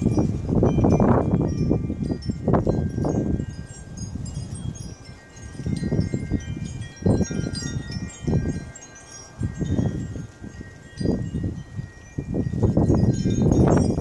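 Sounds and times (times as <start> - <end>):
wind chimes tinkling: 0.0 - 14.0.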